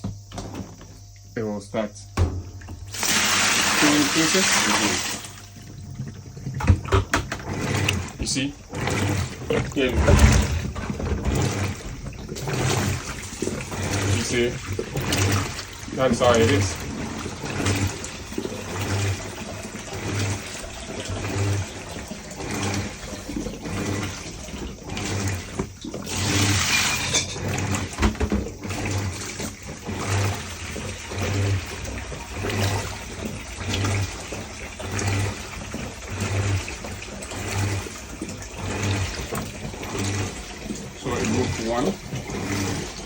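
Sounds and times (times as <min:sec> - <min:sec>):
washing machine motor humming: 0:00.0 - 0:43.0
water sloshing: 0:02.1 - 0:43.0.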